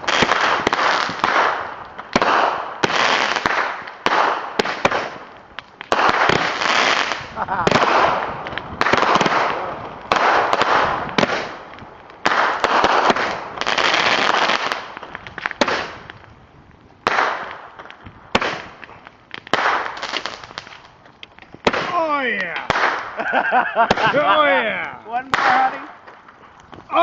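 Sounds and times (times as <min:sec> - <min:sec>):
fireworks bangs: 0:00.0 - 0:16.4, 0:17.0 - 0:27.0
fireworks crackle: 0:00.0 - 0:27.0.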